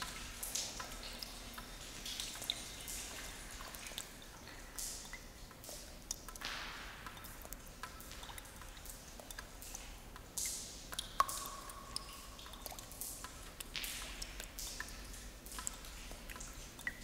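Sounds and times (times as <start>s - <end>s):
water drips: 0.0s - 17.0s.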